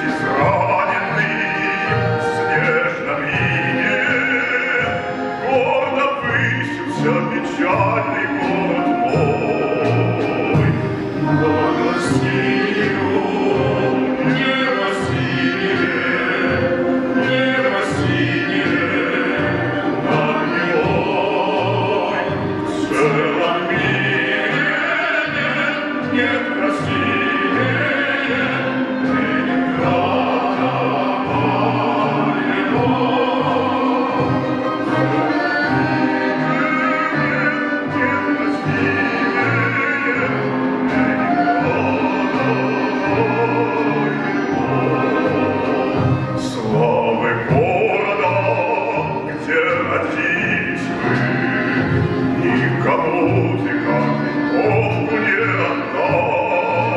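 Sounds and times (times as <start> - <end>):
folk string orchestra: 0.0 - 56.9.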